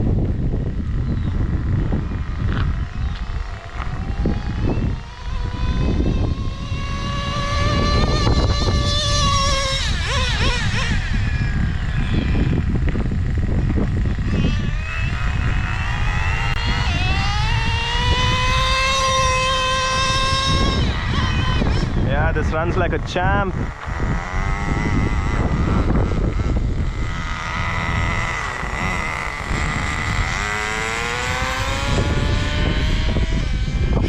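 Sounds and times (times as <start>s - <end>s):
nitro engine revving high: 0.0s - 34.0s.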